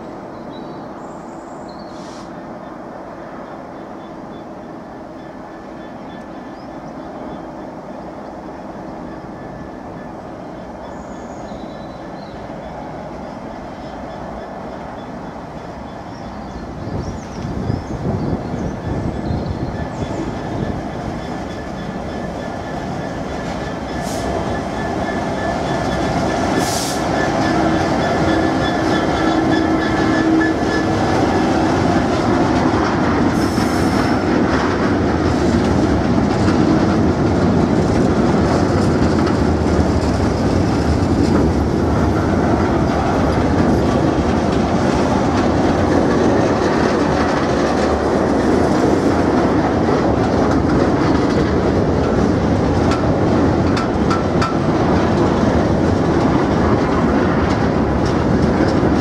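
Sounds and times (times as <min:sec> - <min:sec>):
freight train wheels clattering: 0:05.2 - 0:59.0.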